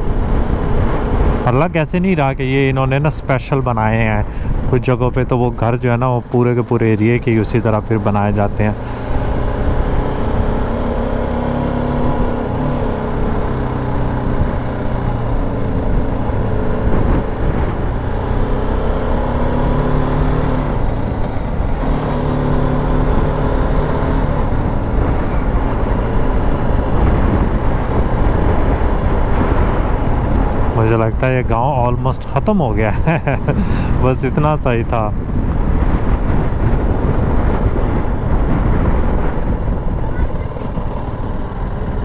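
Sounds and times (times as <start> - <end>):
wind rumbling on microphone: 0.0 - 42.0
motorcycle engine running: 4.3 - 31.5, 35.1 - 42.0.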